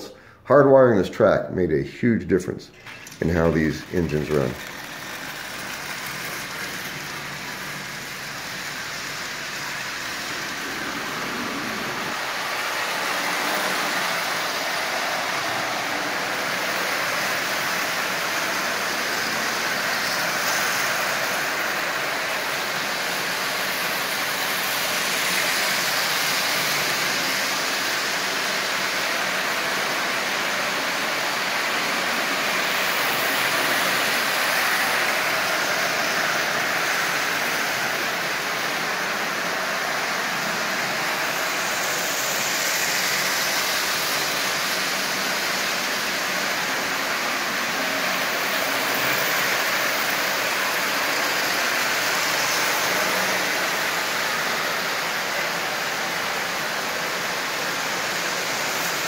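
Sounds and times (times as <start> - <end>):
toy train motors whirring: 2.4 - 59.0.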